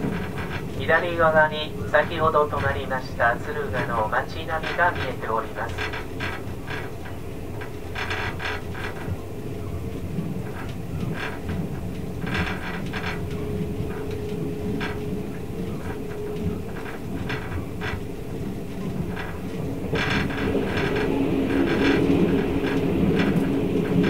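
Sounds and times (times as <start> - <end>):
sharp rail clacks: 0.0 - 9.2, 10.4 - 24.0
train wheels rumbling on track: 0.0 - 24.0.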